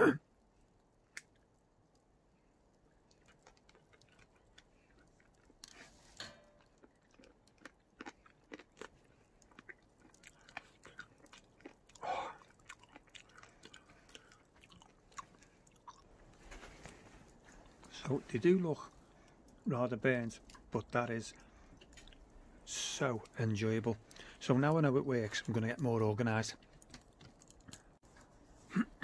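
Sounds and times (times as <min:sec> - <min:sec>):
man chewing with crunches: 0:00.4 - 0:18.2, 0:18.8 - 0:19.7, 0:20.4 - 0:22.6, 0:26.6 - 0:29.0.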